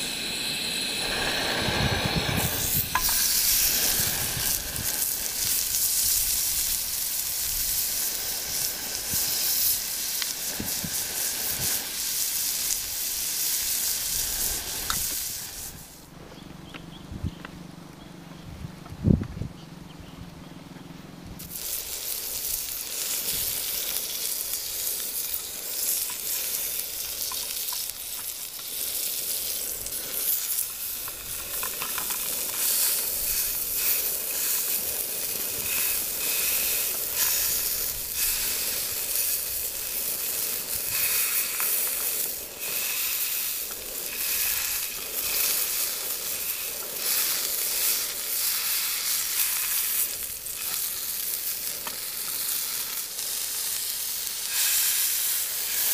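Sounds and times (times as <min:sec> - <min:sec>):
chicken sizzling in a frying pan: 0:00.0 - 0:16.0, 0:21.4 - 0:55.9.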